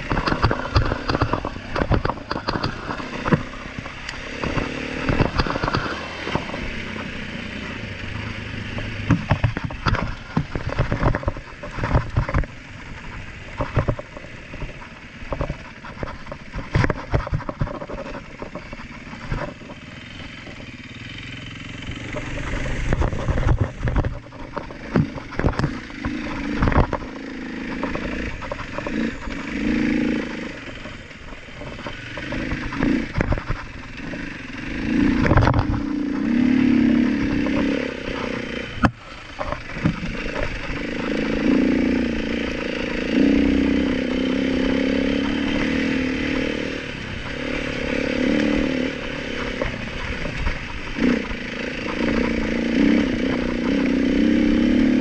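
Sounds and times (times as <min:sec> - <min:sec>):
bike knocks and rattles: 0:00.0 - 0:20.8, 0:21.7 - 0:55.0
dirt bike engine revving: 0:00.0 - 0:55.0.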